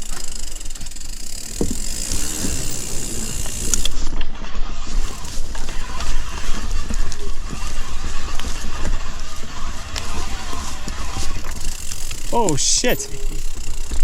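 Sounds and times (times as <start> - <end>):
chain and frame rattling: 0.0 - 4.1, 4.9 - 14.0
bike tyres on dirt: 0.0 - 14.0.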